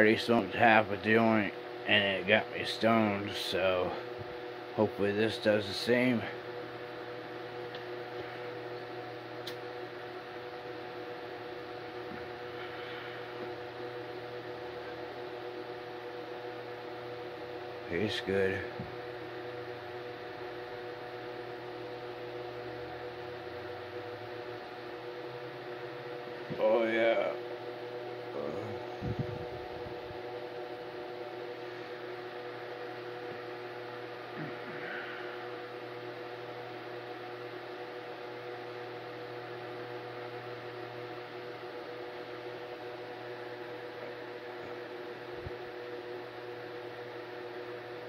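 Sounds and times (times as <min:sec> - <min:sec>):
steady appliance hum: 0:00.0 - 0:48.0.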